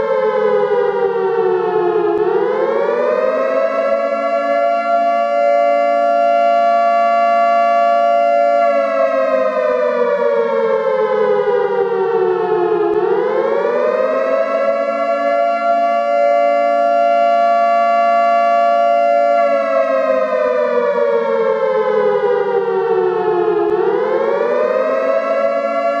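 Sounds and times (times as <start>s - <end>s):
air raid siren wailing: 0.0s - 26.0s.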